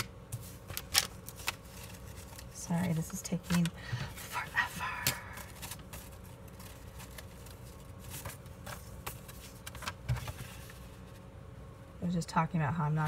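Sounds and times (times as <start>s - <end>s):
paper pages rustling: 0.0s - 11.3s.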